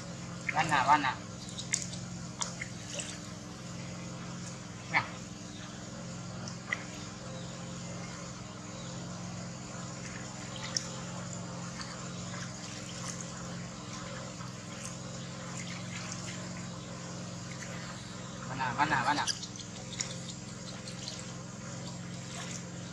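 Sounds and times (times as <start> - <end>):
steady low hum: 0.0 - 22.9
water splashing and trickling: 0.0 - 22.9.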